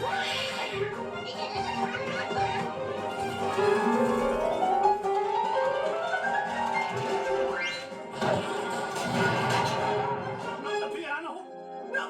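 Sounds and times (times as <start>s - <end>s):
piano music: 0.1s - 12.0s.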